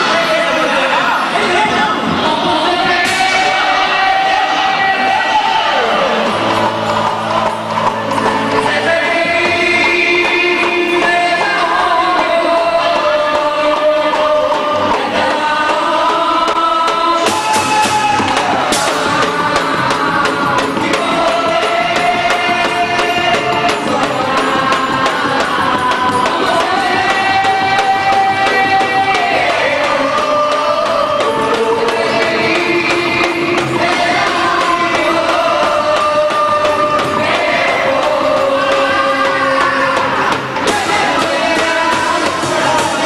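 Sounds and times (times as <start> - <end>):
dense musical accompaniment: 0.0 - 43.0
voices singing long held notes: 0.0 - 43.0.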